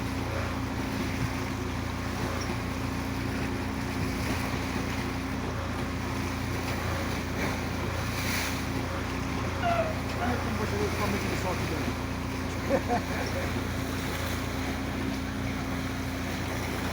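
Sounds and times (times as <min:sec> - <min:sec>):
motorboat engine running: 0:00.0 - 0:16.9
rush of wind and water: 0:00.0 - 0:16.9.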